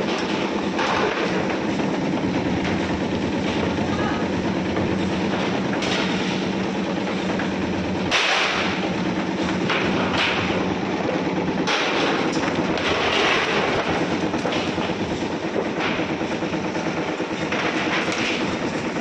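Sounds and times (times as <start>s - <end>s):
slicing machine rattling hum: 0.0s - 19.0s.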